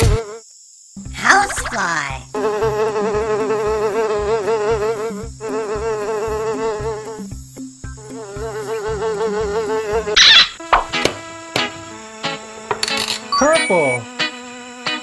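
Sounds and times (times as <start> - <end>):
fly buzzing: 0.0 - 15.0.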